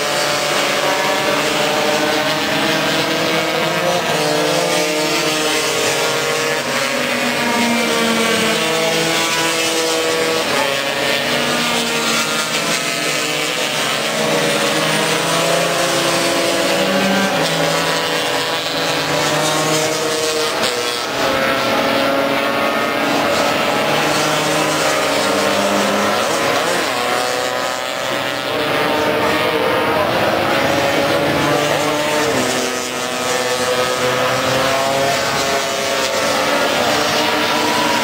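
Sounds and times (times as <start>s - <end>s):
racing scooter engines revving: 0.0s - 38.0s.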